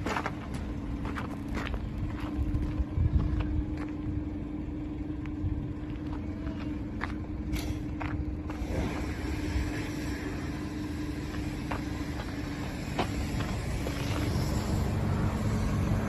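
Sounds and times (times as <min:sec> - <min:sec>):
van engine idling: 0:00.0 - 0:16.0.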